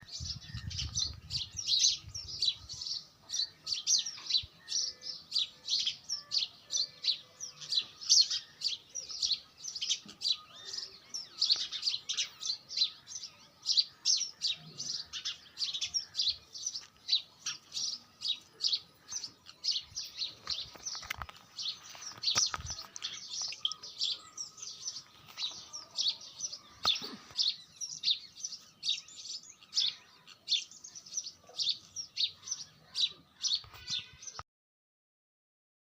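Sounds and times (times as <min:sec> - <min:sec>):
bird chirping: 0:00.0 - 0:34.4.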